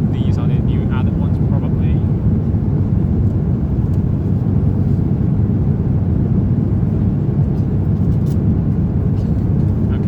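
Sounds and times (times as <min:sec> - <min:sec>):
airplane cabin rumble: 0:00.0 - 0:10.0.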